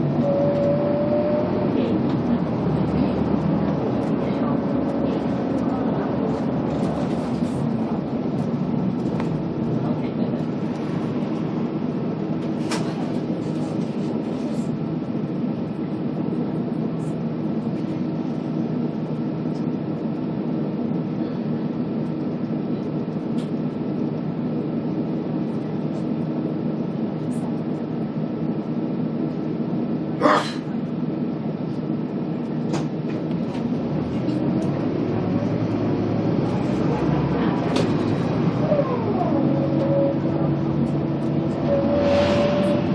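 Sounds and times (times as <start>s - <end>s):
bus engine running: 0.0s - 42.9s.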